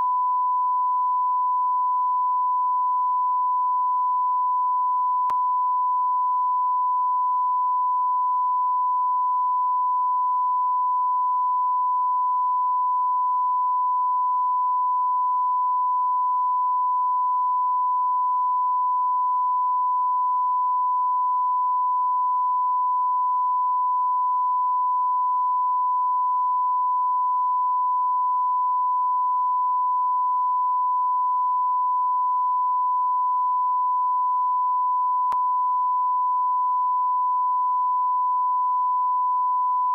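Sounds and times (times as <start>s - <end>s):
continuous high sine-wave beep: 0.0s - 39.9s.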